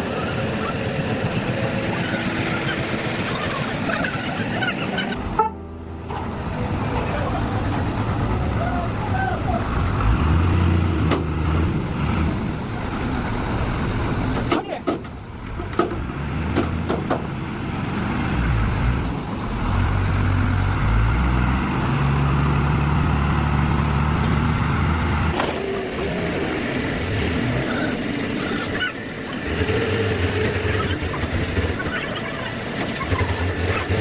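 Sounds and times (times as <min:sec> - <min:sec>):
truck engine revving: 0:00.0 - 0:05.4, 0:06.3 - 0:14.4, 0:15.3 - 0:34.0.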